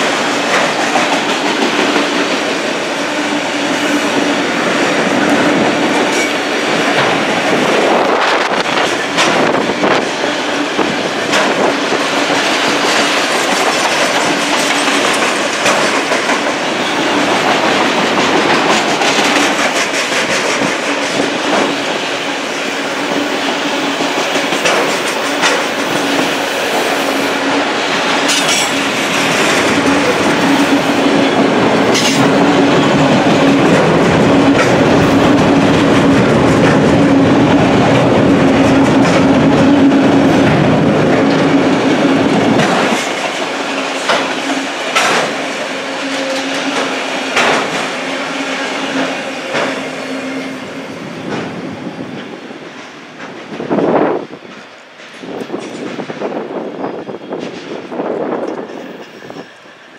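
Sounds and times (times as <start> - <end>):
wheels clacking over rail joints: 0.0 - 50.5.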